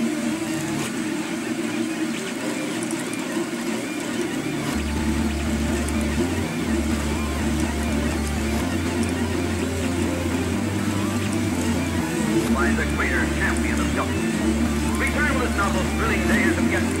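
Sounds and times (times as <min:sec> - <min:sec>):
printer stepper motors humming: 0:00.0 - 0:17.0.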